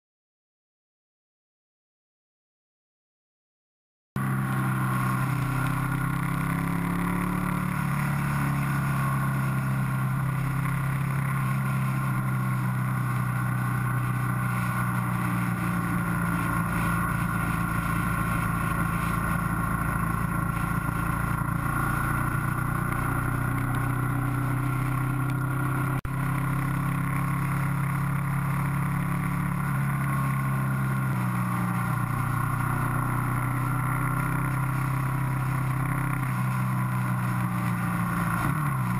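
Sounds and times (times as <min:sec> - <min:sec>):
motorcycle engine droning: 0:04.2 - 0:38.9.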